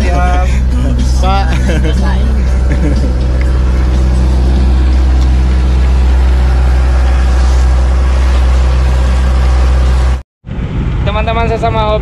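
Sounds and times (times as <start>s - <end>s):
water splashing along hull: 0.0s - 10.2s
boat engine droning: 0.0s - 12.0s.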